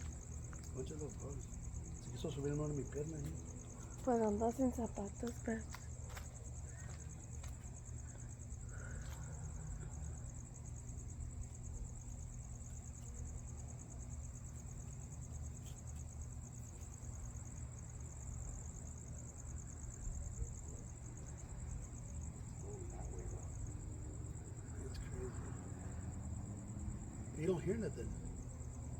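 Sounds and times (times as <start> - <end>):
crickets chirping: 0.0 - 28.9.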